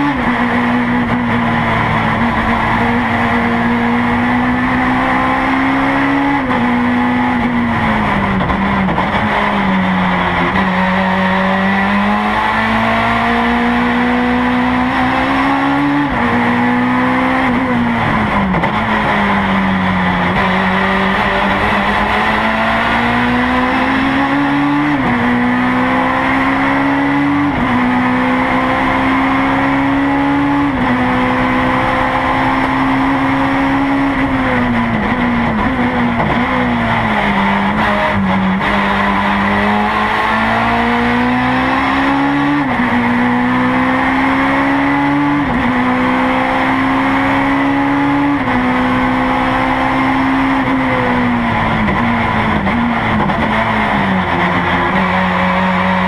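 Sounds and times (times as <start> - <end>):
race car engine shifting gears: 0.0 - 56.0.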